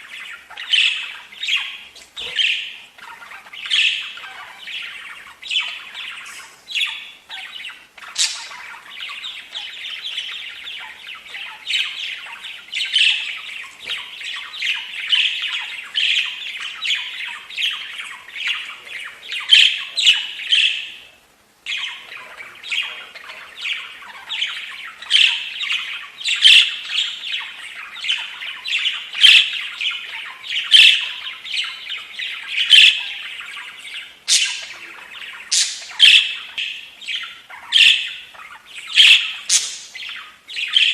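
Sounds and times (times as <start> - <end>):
budgerigar chattering and warbling: 0.0 - 21.0, 21.7 - 40.9
budgerigar squawks and chirps: 0.0 - 21.0, 21.7 - 40.9.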